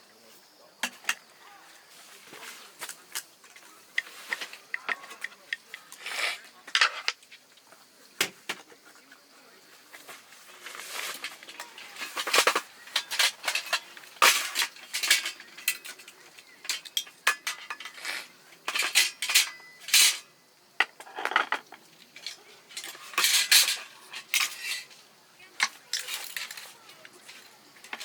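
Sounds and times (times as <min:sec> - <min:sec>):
metal utensils clinking and scraping: 0:02.2 - 0:07.3, 0:09.9 - 0:28.0.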